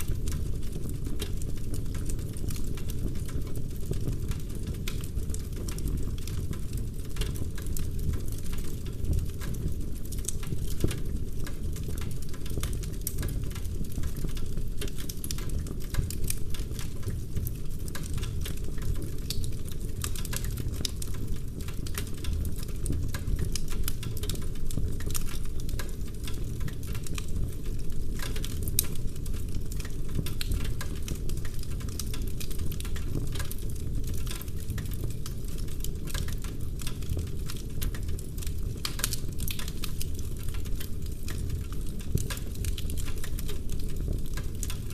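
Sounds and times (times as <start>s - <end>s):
logs crackling and popping: 0.0s - 44.9s
low rumble of flames: 0.0s - 44.9s.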